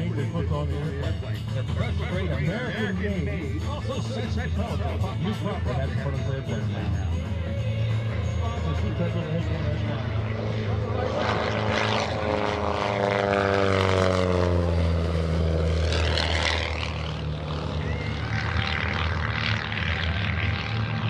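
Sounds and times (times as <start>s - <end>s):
biplane engine and propeller drone: 0.0s - 21.0s.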